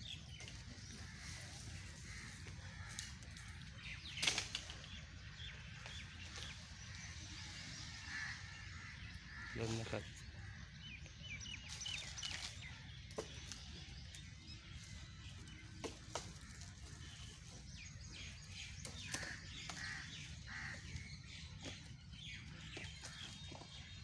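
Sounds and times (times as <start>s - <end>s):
birds chirping and calling: 0.0s - 24.0s.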